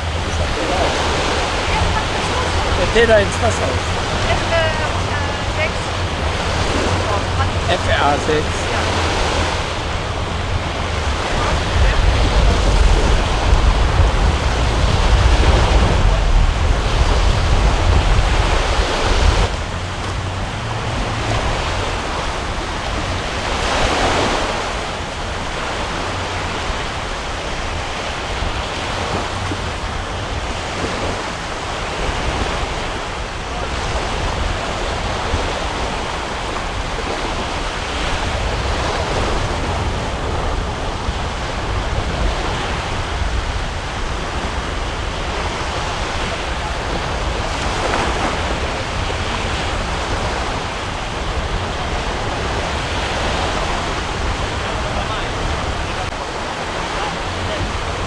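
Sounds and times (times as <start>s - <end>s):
surf washing: 0.0s - 58.0s
wind rumbling on microphone: 0.0s - 58.0s.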